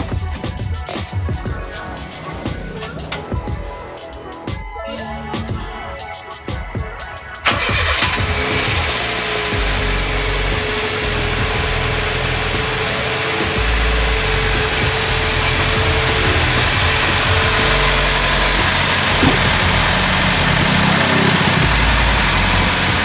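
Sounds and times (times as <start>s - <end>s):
car engine idling: 0.1s - 5.7s, 7.4s - 23.0s.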